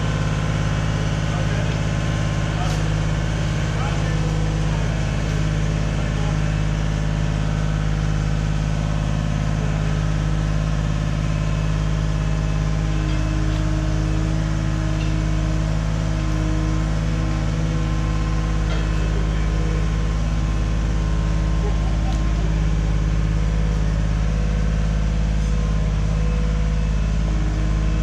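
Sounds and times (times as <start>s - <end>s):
machinery engine idling: 0.0s - 28.0s.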